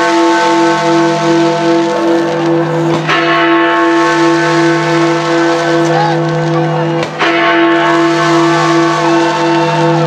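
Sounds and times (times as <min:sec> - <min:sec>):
crowd noise: 0:00.6 - 0:03.2, 0:04.2 - 0:10.0.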